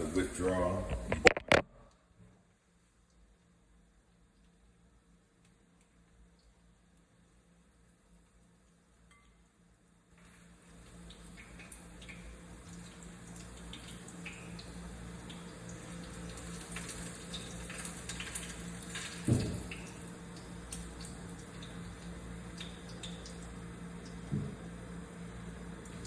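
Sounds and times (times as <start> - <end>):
deep-frying sizzle with pops: 2.6 - 26.0.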